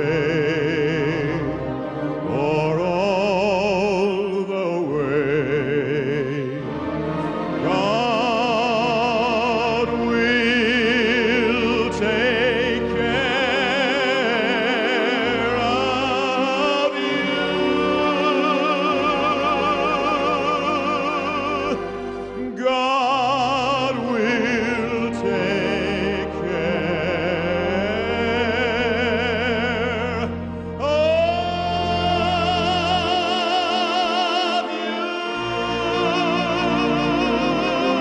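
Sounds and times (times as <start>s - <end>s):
operatic solo singing: 0.0s - 38.0s
sustained instrumental accompaniment: 0.0s - 38.0s.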